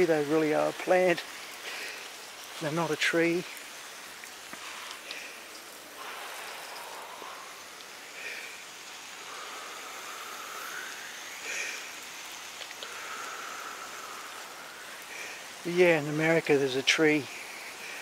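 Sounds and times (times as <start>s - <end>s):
steady outdoor hiss: 0.0s - 18.0s
faint gliding whistle-like calls: 1.3s - 18.0s.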